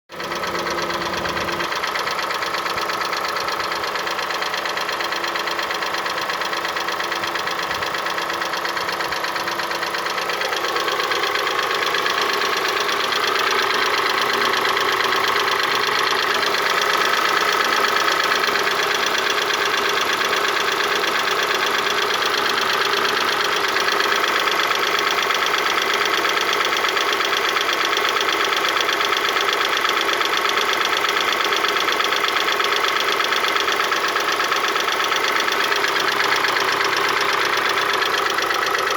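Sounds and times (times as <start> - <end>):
car engine idling with knocking: 0.1 - 38.9.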